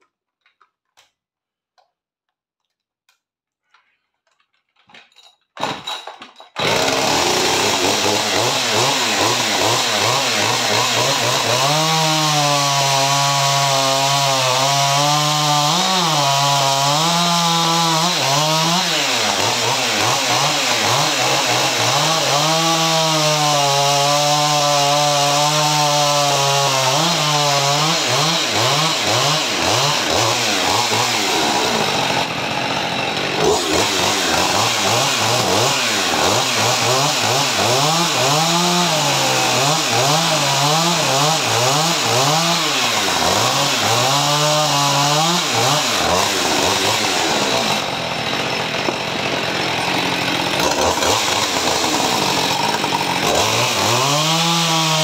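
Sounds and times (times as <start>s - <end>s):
chainsaw cutting log: 6.6s - 55.0s.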